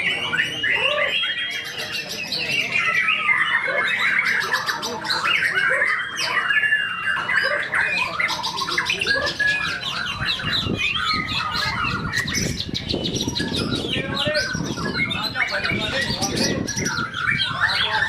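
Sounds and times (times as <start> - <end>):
songbird singing whistles and trills: 0.0 - 18.0.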